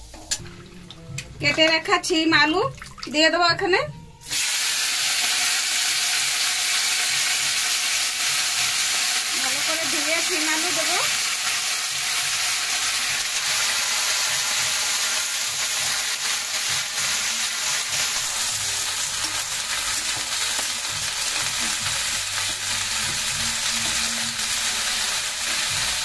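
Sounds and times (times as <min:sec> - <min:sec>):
vegetables sizzling in hot oil: 0:04.2 - 0:26.0.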